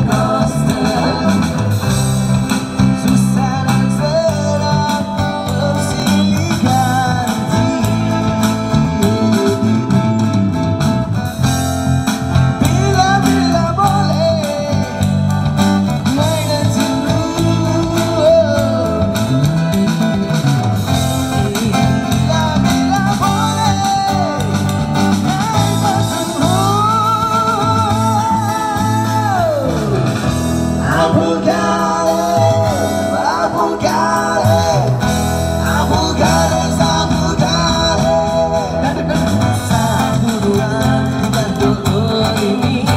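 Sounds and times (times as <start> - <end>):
amplified acoustic guitar: 0.0 - 42.9
drums: 0.0 - 42.9.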